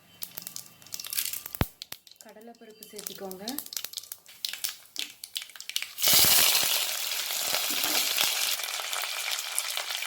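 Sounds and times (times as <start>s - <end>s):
seeds popping in hot oil: 0.0s - 10.0s
loud sizzle of frying: 0.2s - 10.0s.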